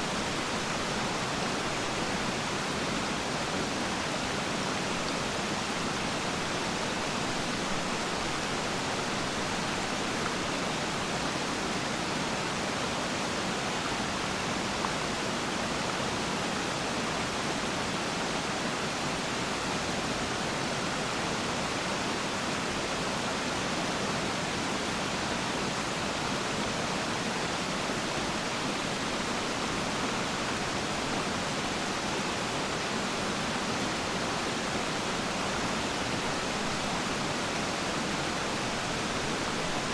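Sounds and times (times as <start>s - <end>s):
waterfall rushing: 0.0s - 22.4s, 25.4s - 39.9s.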